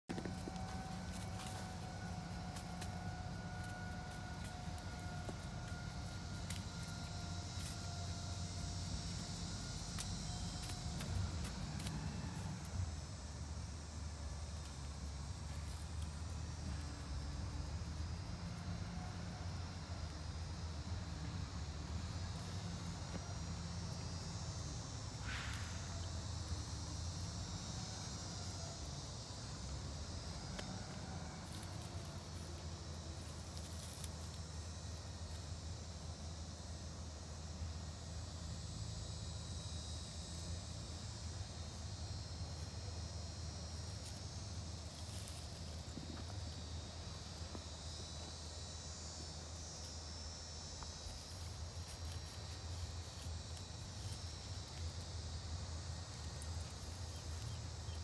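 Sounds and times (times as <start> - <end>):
low steady rumble: 0.0 - 58.0
insects trilling: 0.1 - 58.0.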